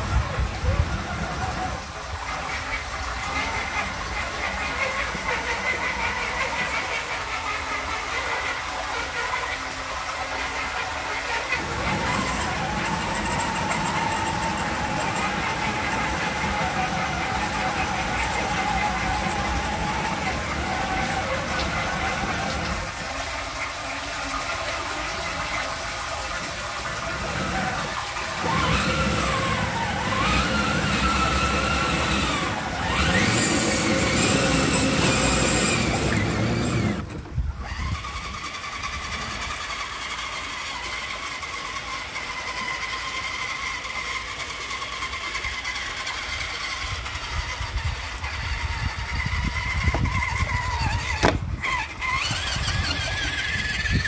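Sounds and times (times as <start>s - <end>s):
electric motor and gears whining: 0.0s - 54.0s.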